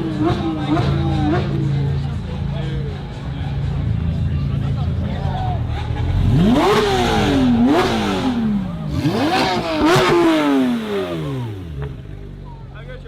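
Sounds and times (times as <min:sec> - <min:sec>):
sports car engine revving: 0:00.0 - 0:12.7.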